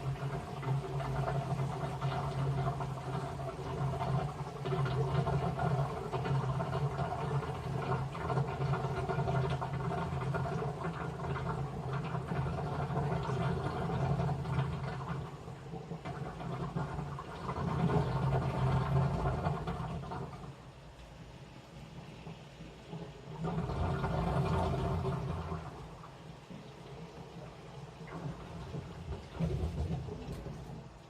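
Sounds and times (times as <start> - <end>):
washing machine motor hum: 0.0 - 31.0
water sloshing in drum: 0.0 - 31.0.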